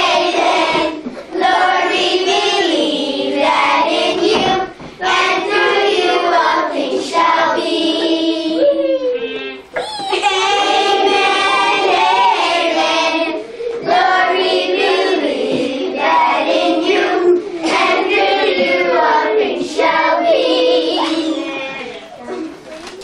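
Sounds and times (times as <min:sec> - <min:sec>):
children singing together: 0:00.0 - 0:22.9.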